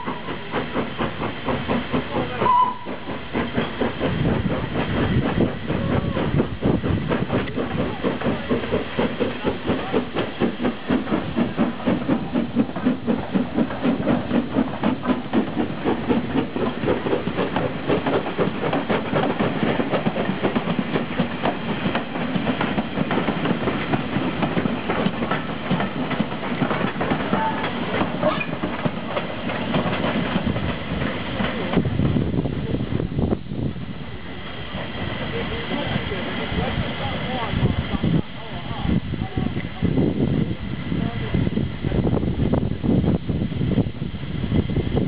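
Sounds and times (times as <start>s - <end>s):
steam locomotive exhaust beats: 0.0s - 45.0s
train rumbling on rails: 0.0s - 45.0s.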